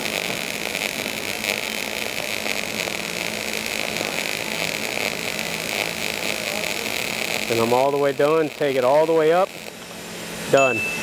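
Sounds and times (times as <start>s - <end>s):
welding arc crackling hiss: 0.0s - 11.0s.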